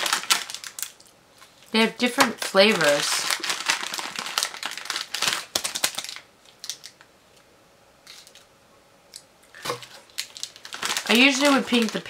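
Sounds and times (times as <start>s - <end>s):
plastic bag crinkling: 0.0s - 7.1s, 8.0s - 8.5s, 9.6s - 12.0s.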